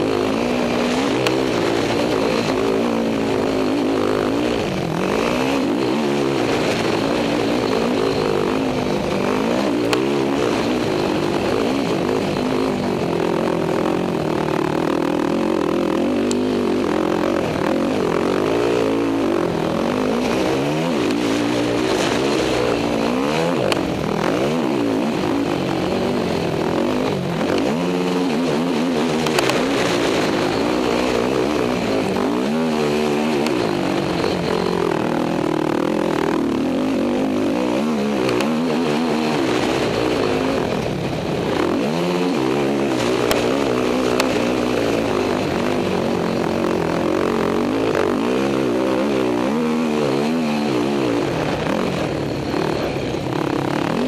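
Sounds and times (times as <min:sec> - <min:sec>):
quad engine revving: 0:00.0 - 0:54.0
rush of wind: 0:00.0 - 0:54.0.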